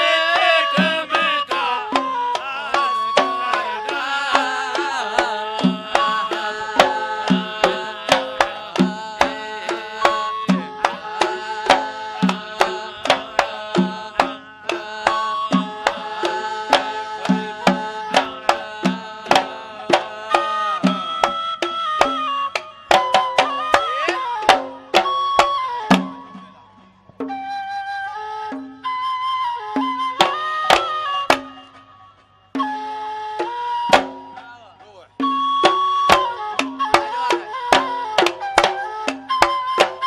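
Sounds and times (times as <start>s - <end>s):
hand-drum strokes: 0.0s - 27.6s, 29.7s - 40.0s
instrumental band melody: 0.0s - 40.0s.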